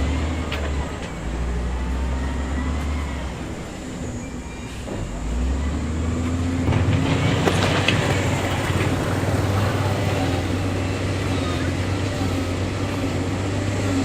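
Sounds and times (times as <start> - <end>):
diesel engine drone: 0.0 - 14.0.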